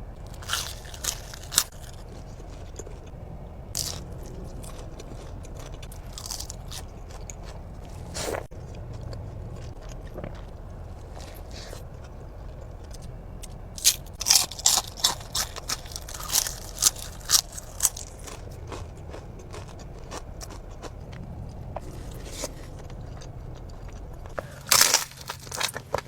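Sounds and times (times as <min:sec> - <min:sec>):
crunchy biting and chewing: 0:00.2 - 0:26.0.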